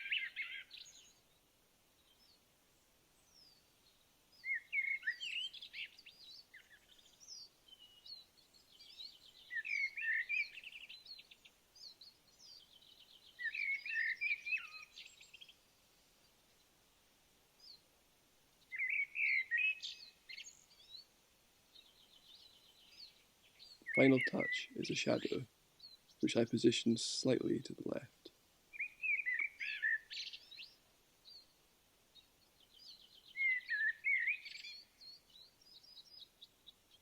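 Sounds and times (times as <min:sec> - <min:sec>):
small bird chirping: 0:00.0 - 0:01.4, 0:03.2 - 0:16.7, 0:18.6 - 0:21.1, 0:21.7 - 0:37.0.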